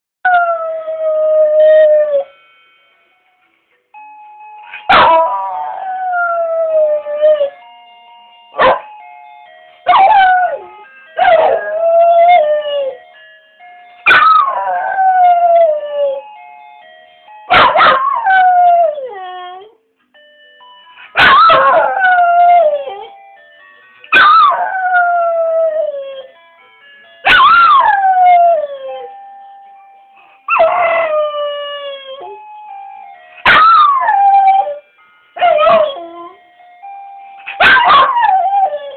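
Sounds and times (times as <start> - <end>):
simple tune: 0.3 - 38.9.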